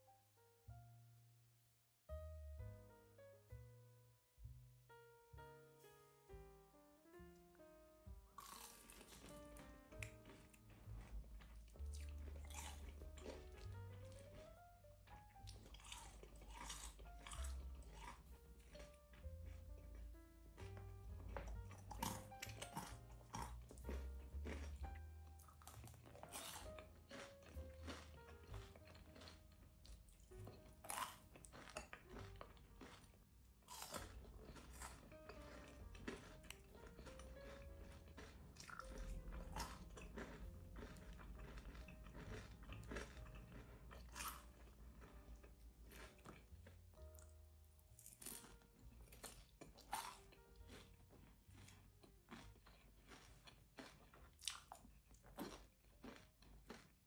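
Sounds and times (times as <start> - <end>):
soft background music: 0.0 - 57.0
crunching and chewing food: 8.1 - 57.0.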